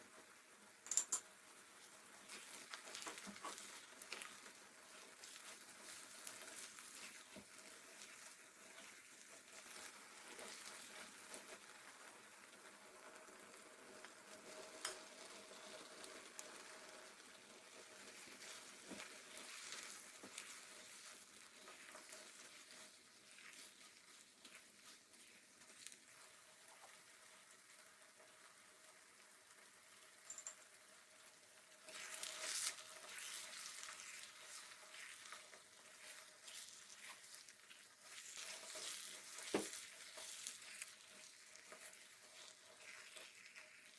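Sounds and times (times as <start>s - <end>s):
food frying in a pan: 0.0s - 43.9s.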